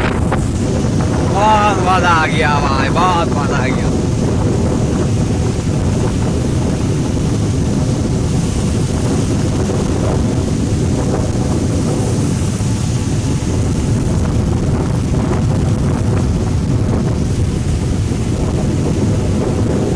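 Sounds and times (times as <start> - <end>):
motorcycle running: 0.0 - 19.9
wind buffeting microphone: 0.0 - 19.9.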